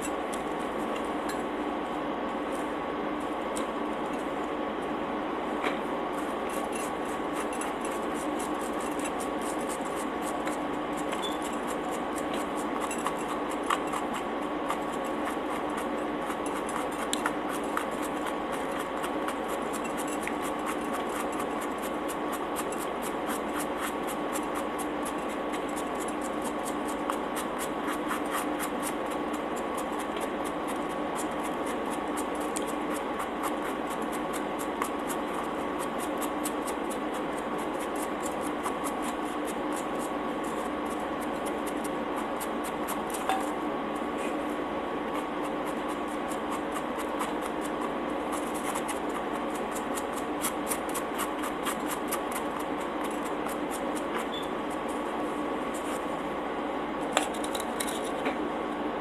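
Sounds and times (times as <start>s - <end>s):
steady two-tone hum: 0.0s - 59.0s.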